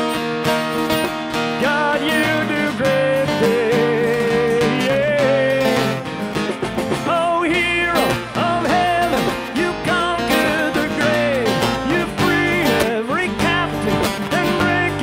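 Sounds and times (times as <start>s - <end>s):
acoustic and electric guitars: 0.0s - 15.0s
bass guitar: 0.0s - 15.0s
drums: 0.0s - 15.0s
sliding lead melody: 0.0s - 15.0s.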